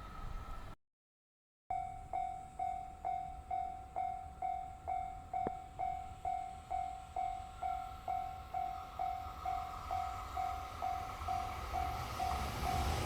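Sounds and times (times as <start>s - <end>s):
level-crossing warning bell ringing: 1.7s - 13.0s.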